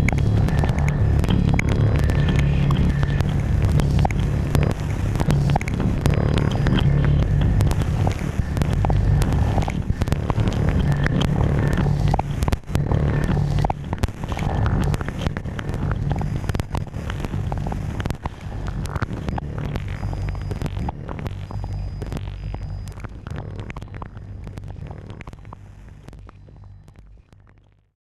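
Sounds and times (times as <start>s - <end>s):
low rumbling synthesizer drone: 0.0s - 27.9s
sharp crackles and clicks: 0.0s - 28.0s.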